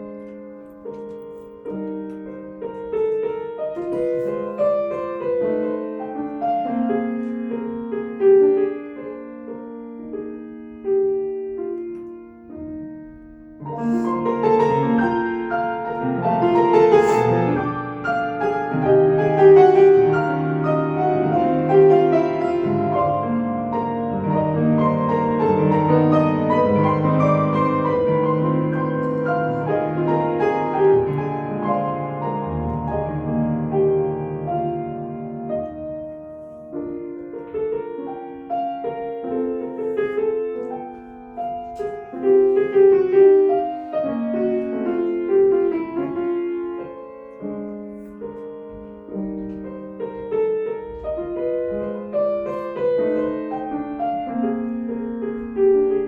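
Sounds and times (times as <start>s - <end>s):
solo classical piano: 0.0s - 56.0s.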